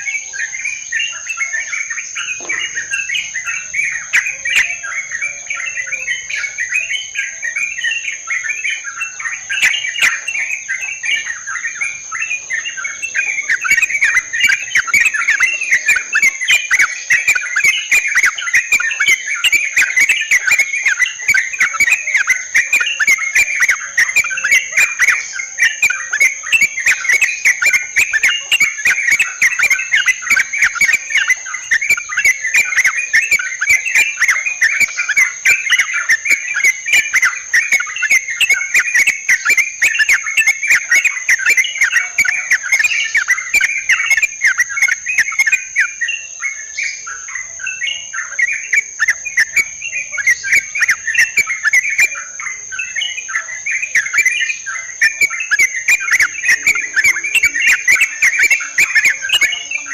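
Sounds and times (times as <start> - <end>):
birds chattering: 0.0 - 59.9.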